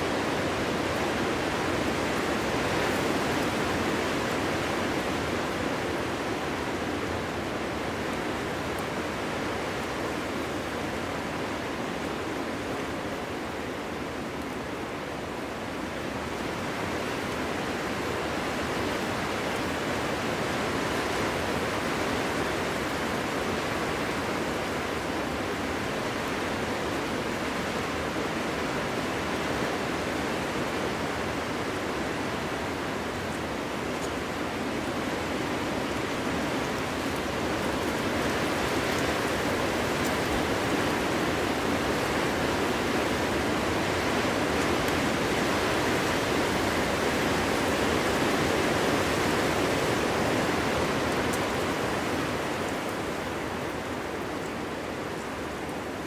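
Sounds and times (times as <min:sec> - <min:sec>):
wind blowing through forest: 0:00.0 - 0:56.0.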